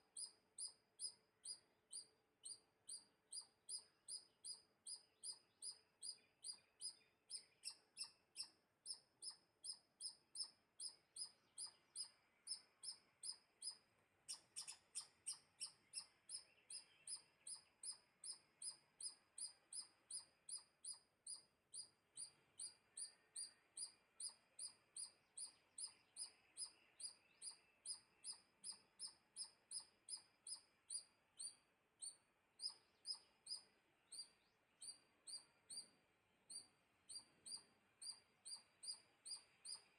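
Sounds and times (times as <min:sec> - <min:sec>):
squirrel chirping: 0:00.0 - 0:39.9.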